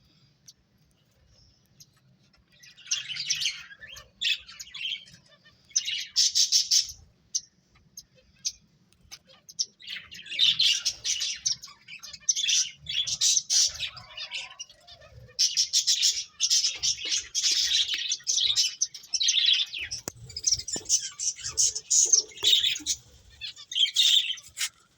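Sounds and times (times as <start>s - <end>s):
finches chirping: 1.3s - 24.9s.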